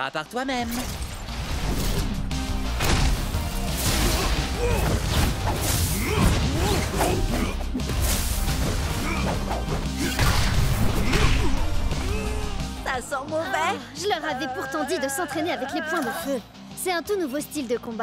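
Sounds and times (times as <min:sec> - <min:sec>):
dramatic action music: 0:00.0 - 0:18.0.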